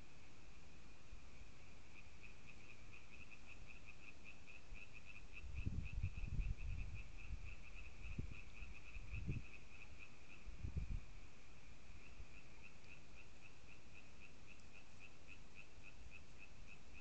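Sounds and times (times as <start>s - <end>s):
frog or insect chirping: 1.3s - 17.0s.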